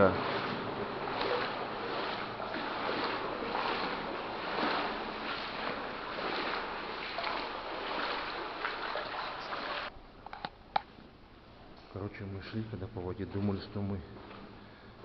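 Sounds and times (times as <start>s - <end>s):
wading through sloshing water: 0.0s - 9.9s, 10.9s - 15.0s.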